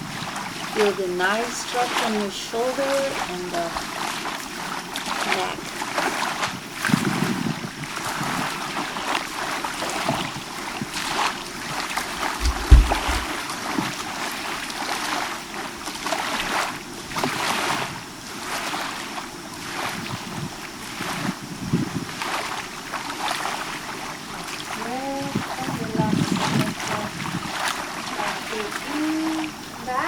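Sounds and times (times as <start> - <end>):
water lapping against shore: 0.0 - 30.0.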